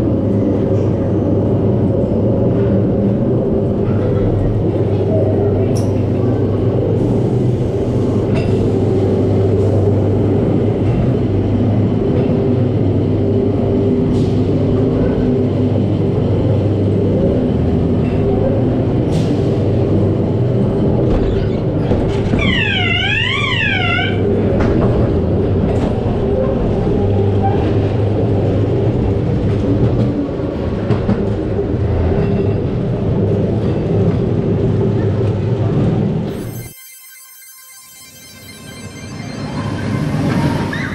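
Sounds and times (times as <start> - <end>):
ride car rumbling on track: 0.0 - 36.3, 38.7 - 40.9.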